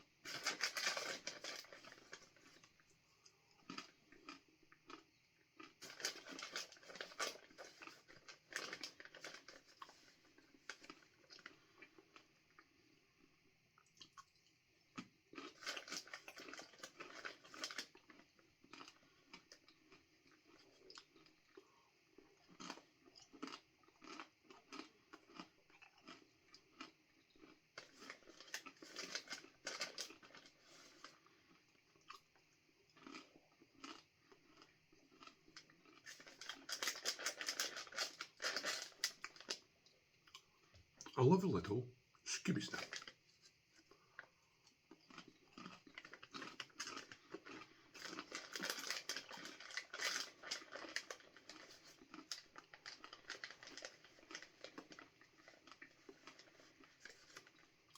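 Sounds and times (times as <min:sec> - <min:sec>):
person crunching banana chips: 0:00.3 - 0:02.8, 0:03.6 - 0:12.3, 0:15.3 - 0:39.6, 0:43.8 - 0:57.9.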